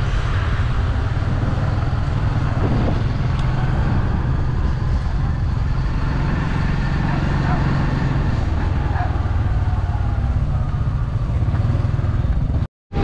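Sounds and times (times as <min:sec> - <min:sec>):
wind rumble on microphone: 0:00.0 - 0:13.0
small vehicle engine running: 0:00.7 - 0:13.0.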